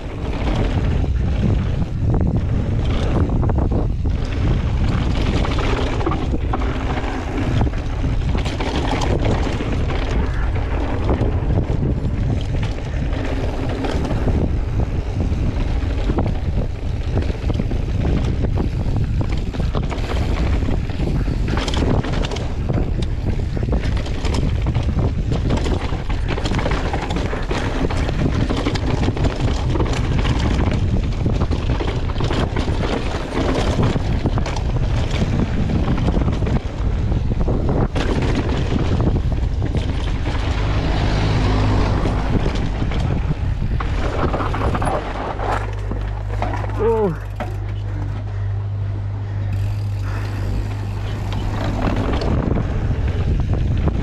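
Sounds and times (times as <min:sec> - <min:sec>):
bike knocking and rattling: 0:00.0 - 0:54.0
wind buffeting microphone: 0:00.0 - 0:54.0.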